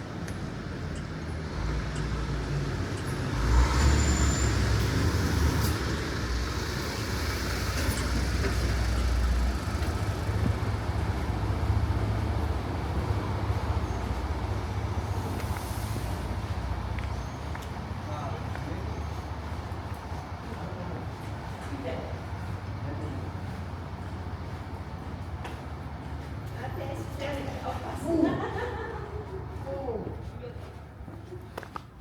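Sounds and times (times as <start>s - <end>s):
passing traffic engine rumble: 0.0s - 32.0s
street noise: 0.0s - 32.0s.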